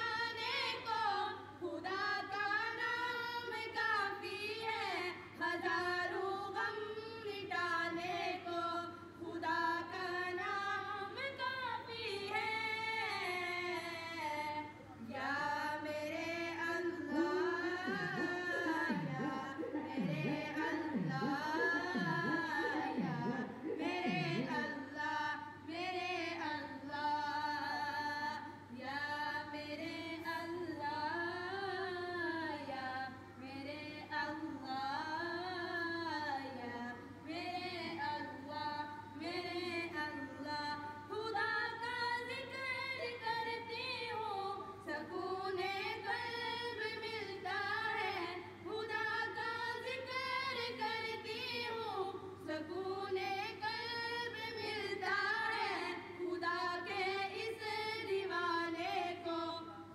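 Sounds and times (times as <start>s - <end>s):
woman singing unaccompanied: 0.0s - 59.9s.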